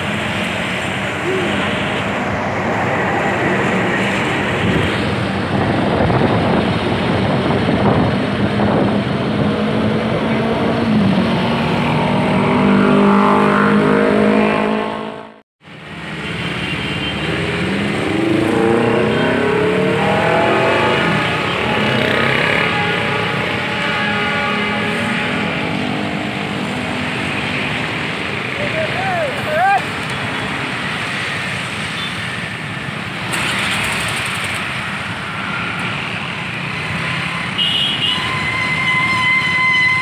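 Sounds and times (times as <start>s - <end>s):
motorbikes and cars pulling away: 0.0s - 40.0s
street traffic: 0.0s - 40.0s.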